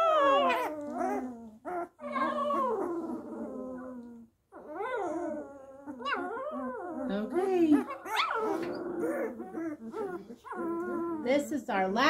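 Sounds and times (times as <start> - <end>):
puppy crying: 0.0 - 11.5.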